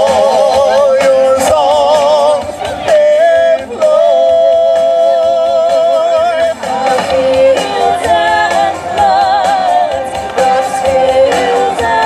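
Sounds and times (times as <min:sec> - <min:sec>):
vocal group singing in harmony: 0:00.0 - 0:12.0.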